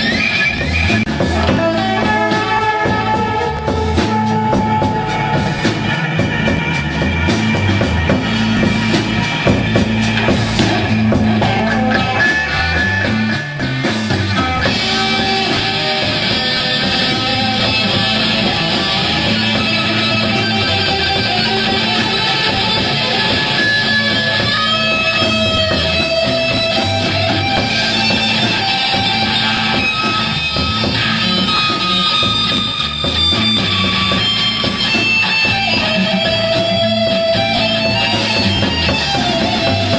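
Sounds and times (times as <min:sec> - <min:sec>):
electric guitar: 0:00.0 - 0:39.9
rock band playing live: 0:00.0 - 0:39.9.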